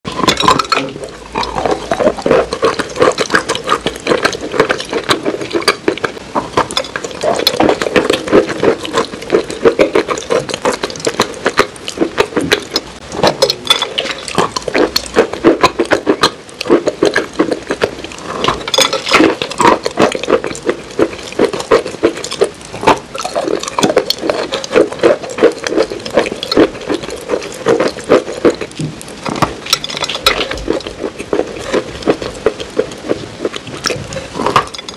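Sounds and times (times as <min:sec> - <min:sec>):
chewing crunchy food: 0:00.0 - 0:34.9
mouth sounds: 0:00.0 - 0:34.9.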